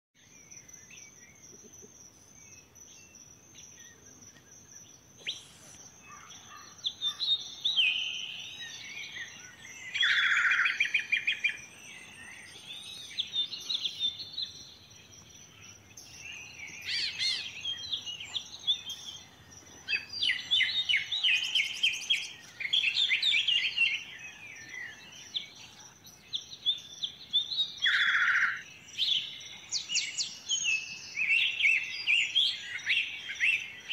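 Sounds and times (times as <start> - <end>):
birds singing and chirping: 0.2 - 33.9.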